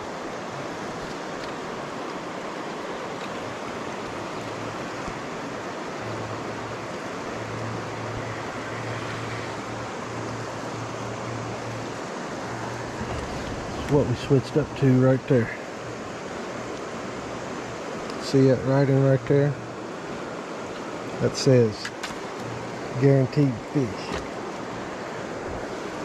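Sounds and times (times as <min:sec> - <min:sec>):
river water rushing over shoal: 0:00.0 - 0:26.0.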